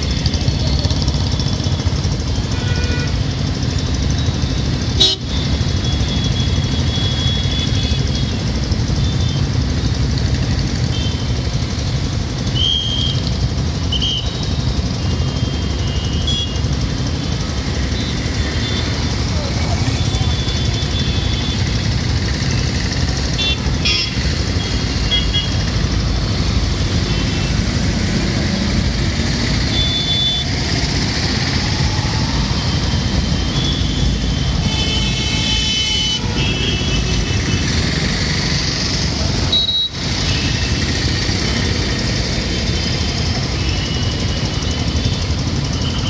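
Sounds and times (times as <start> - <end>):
street traffic engines: 0.0 - 46.0.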